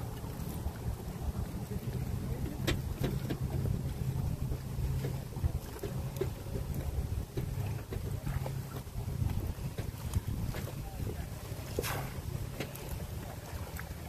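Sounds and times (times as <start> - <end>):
water splashing and lapping: 0.0 - 14.0
wind rumbling on microphone: 0.0 - 14.0.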